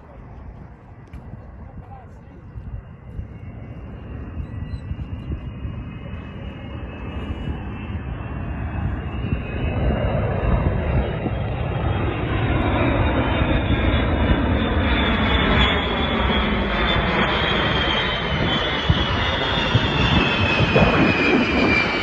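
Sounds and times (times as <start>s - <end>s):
jet engine rumble: 0.0s - 22.0s
jet engine whine: 0.0s - 22.0s.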